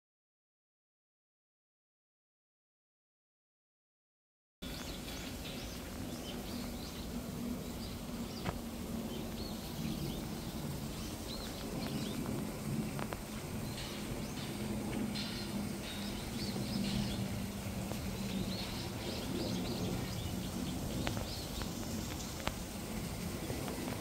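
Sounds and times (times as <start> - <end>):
low steady hum: 4.6 - 24.0
small birds chirping: 4.6 - 24.0.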